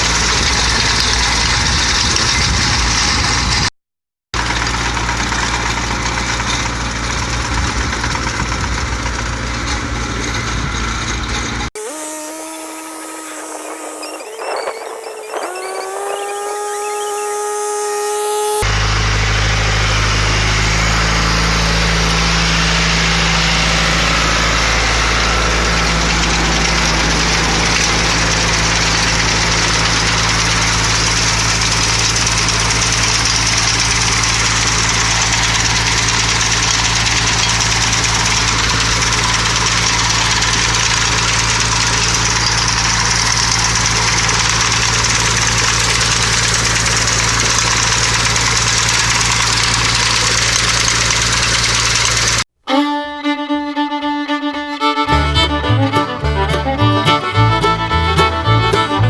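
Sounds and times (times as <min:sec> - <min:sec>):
mower engine drone: 0:00.0 - 0:03.7, 0:04.4 - 0:59.0.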